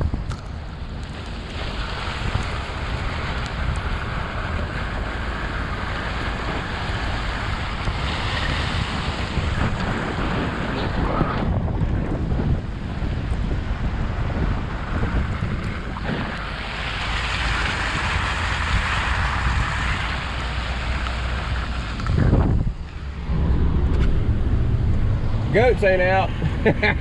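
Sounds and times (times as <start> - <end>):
truck rumbling on slushy road: 0.0 - 27.0
wind noise on microphone: 0.0 - 27.0.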